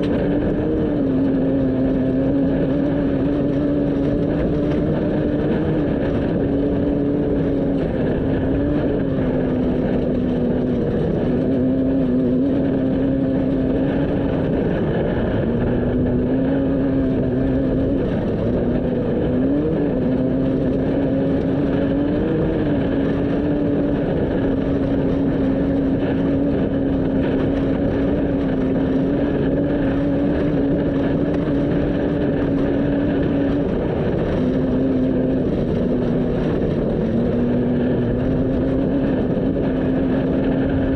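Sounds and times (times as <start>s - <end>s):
race vehicle engine running: 0.0s - 40.9s
tyre and wind noise: 0.0s - 40.9s.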